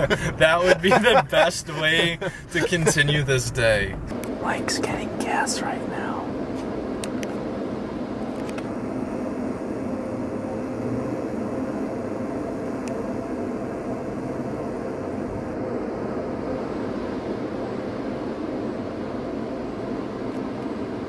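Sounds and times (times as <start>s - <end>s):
mechanical hum and rumble: 0.0s - 21.0s.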